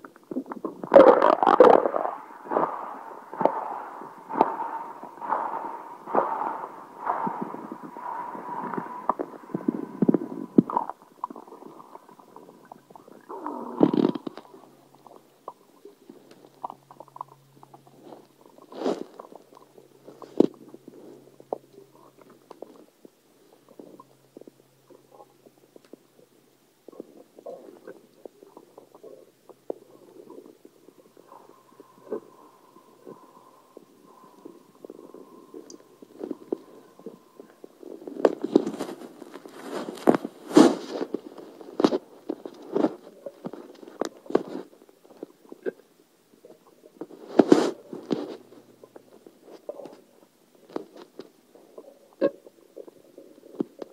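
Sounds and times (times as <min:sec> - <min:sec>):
stomach gurgling and bubbling: 0:00.0 - 0:53.9.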